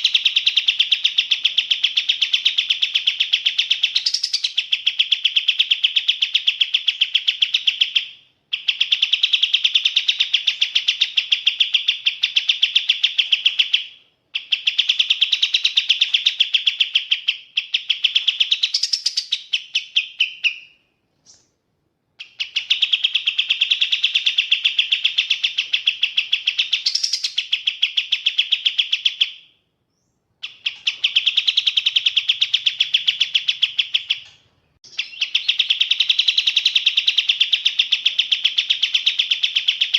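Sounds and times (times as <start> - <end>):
bird singing rapid trills: 0.0 - 21.4, 22.2 - 39.9.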